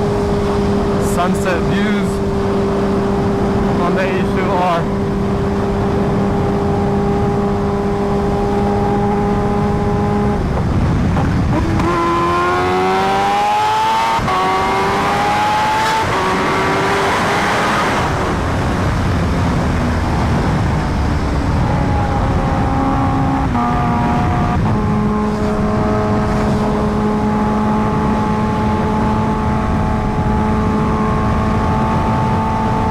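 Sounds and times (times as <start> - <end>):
motorcycle engine accelerating: 0.0 - 32.9
wind rush on microphone: 0.0 - 32.9.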